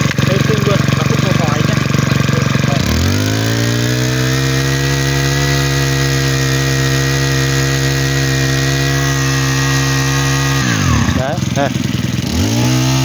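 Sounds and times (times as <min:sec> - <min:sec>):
brush cutter engine at high revs: 0:00.0 - 0:13.0.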